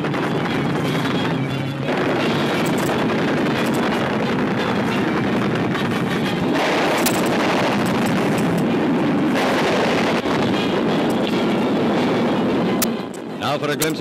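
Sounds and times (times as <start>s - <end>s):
aircraft engine and blast roar: 0.0s - 14.0s.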